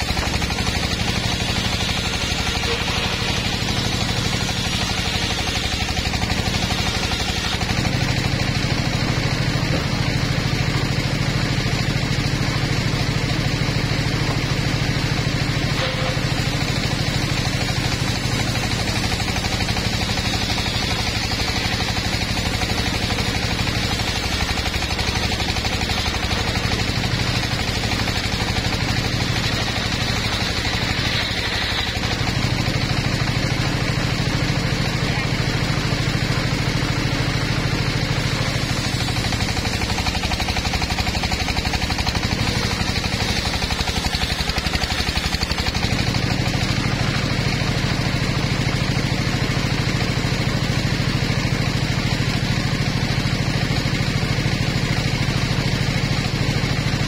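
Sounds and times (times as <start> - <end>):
circular saw blade cutting logs: 0.0 - 57.0
engine drone: 0.0 - 57.0.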